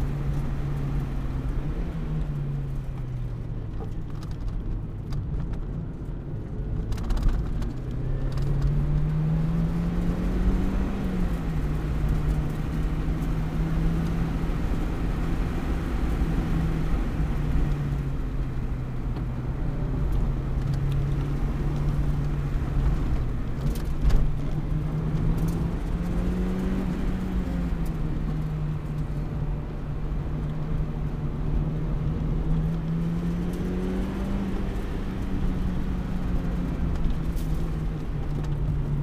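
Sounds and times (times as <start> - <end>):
car engine and tyre noise: 0.0 - 39.0.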